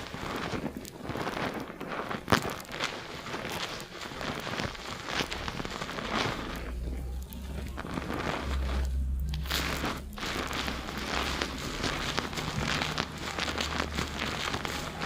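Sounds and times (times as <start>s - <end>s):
fingers scrubbing lathered scalp: 0.0s - 15.0s
foam crackling and squishing: 0.0s - 15.0s.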